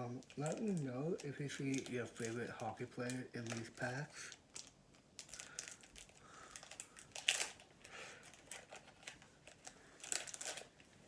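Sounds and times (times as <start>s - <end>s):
wrapper crinkling: 0.1s - 11.0s.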